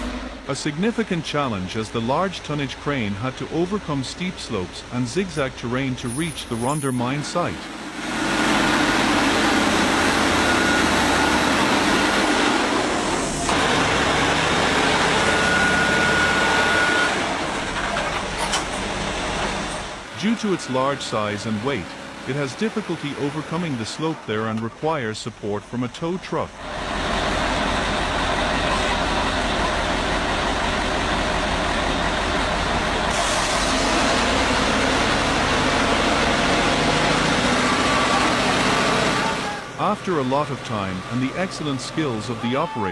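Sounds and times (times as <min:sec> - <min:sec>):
heavy truck engine under load: 0:00.0 - 0:42.9.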